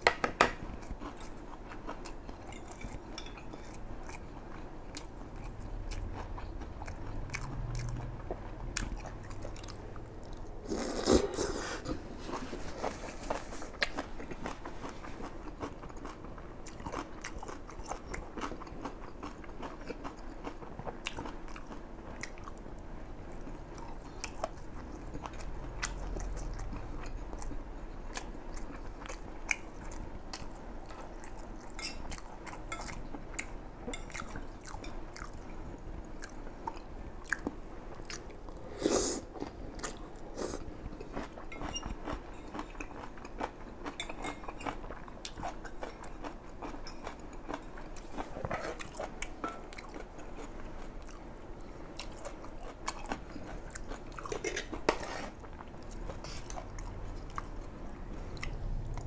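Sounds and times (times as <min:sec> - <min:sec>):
person chewing: 0:00.6 - 0:22.6, 0:23.3 - 0:59.0.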